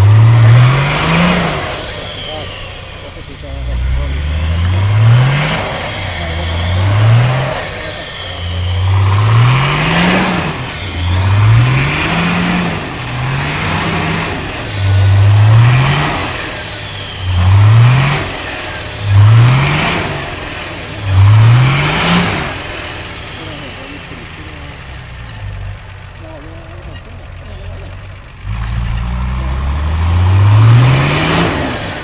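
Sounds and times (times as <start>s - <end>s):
diesel engine revving hard: 0.0s - 32.0s.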